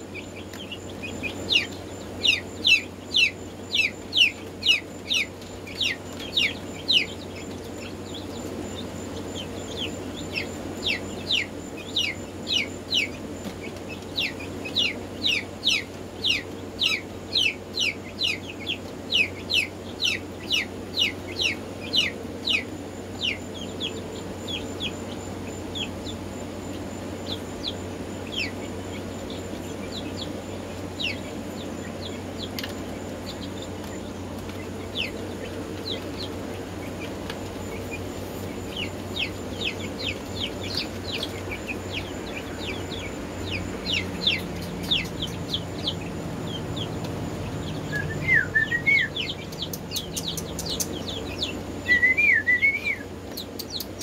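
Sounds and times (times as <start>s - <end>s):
chickens peeping: 0.0s - 54.0s
steady low hum: 0.0s - 54.0s.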